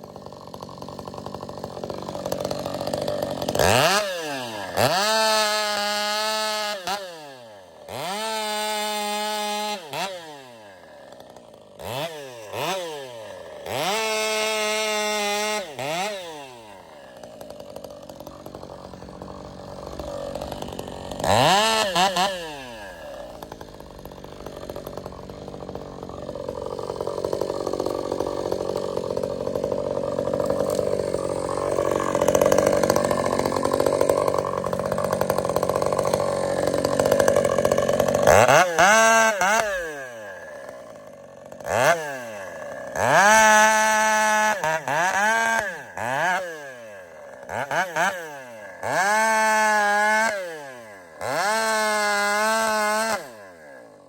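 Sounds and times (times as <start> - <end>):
chainsaw revving and cutting wood: 0.0 - 54.0.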